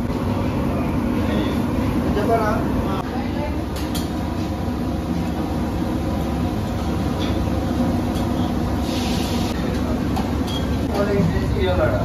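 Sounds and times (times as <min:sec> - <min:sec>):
busy street-food area background: 0:00.0 - 0:12.0.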